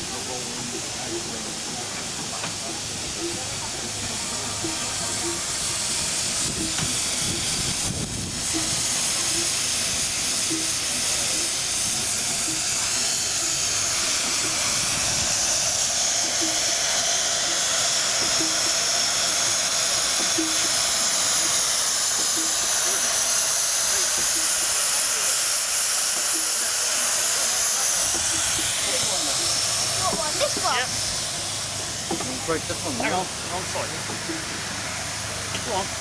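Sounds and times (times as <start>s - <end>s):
steam hissing: 0.0s - 36.0s.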